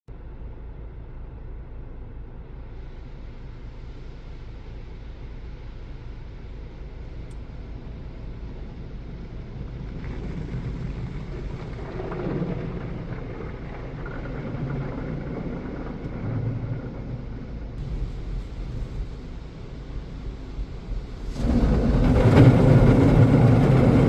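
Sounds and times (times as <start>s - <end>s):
low rumbling: 0.1s - 24.0s
water spraying over car: 2.7s - 24.0s.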